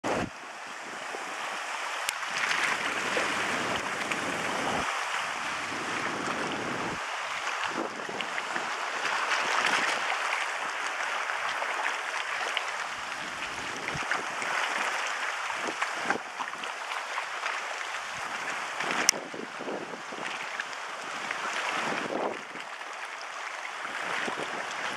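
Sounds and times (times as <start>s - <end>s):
wind rumbling on microphone: 0.0s - 11.6s, 12.8s - 16.7s, 17.8s - 24.9s
choppy waves washing: 0.0s - 24.9s.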